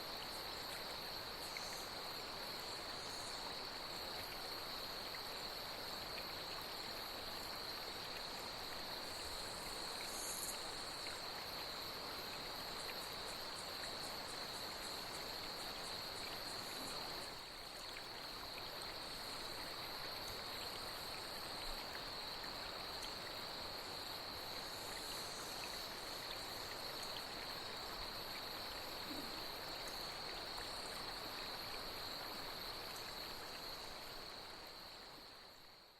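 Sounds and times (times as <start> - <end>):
flowing stream: 0.0 - 35.9
night insects chirring: 0.0 - 35.9.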